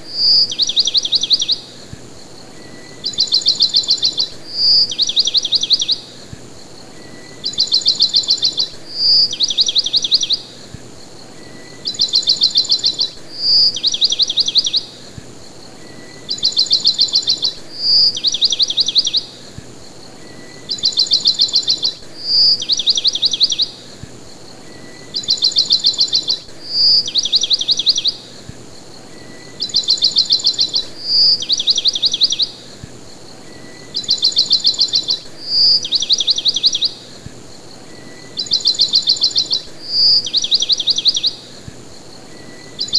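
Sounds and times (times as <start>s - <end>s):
songbird chirping: 0.0s - 42.9s.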